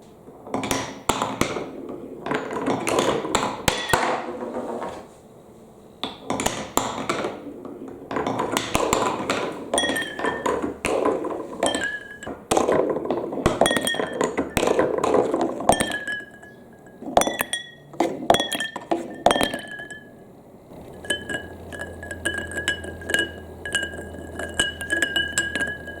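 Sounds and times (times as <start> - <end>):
marbles clattering down plastic track: 0.5 - 5.1, 6.2 - 26.0.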